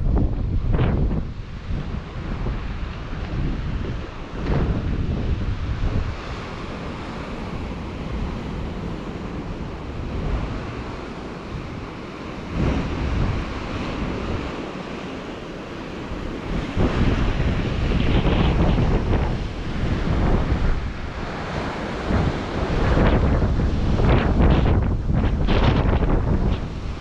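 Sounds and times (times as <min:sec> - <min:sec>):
surf breaking on rocky shore: 0:00.0 - 0:27.0
wind buffeting microphone: 0:00.0 - 0:27.0.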